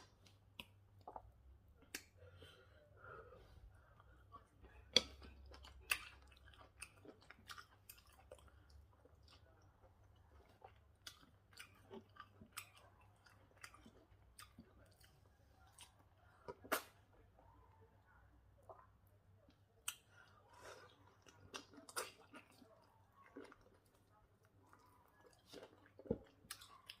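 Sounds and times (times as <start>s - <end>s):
quiet chewing: 0.0s - 17.6s, 18.2s - 27.0s.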